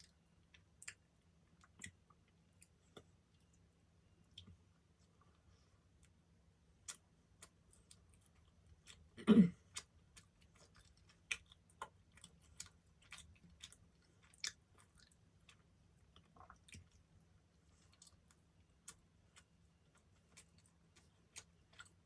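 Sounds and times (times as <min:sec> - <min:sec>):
chewing soft bread: 0:00.0 - 0:22.0.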